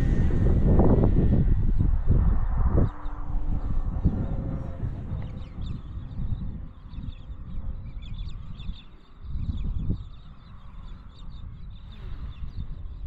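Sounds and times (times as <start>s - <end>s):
wind buffeting microphone: 0.0s - 13.0s
birds chirping: 1.2s - 13.0s.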